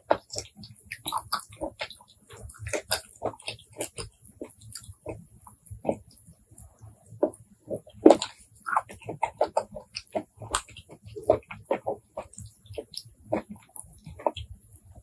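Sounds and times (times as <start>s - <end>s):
wet chewing and lip smacking: 0.0s - 15.0s.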